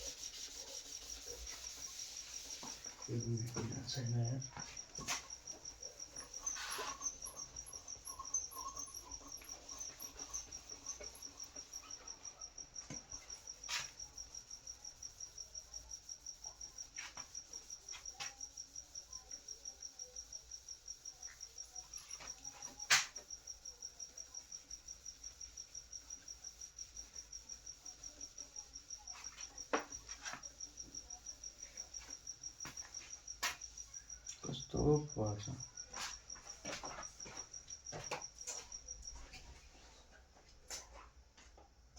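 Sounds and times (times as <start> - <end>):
insect chirping: 0.0 - 39.7.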